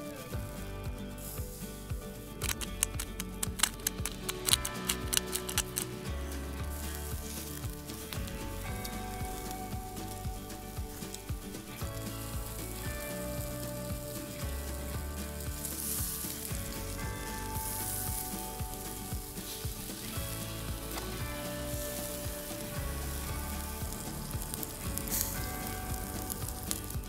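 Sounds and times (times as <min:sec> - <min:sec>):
background music: 0:00.0 - 0:27.0
skewers sizzling on a grill: 0:00.0 - 0:27.0.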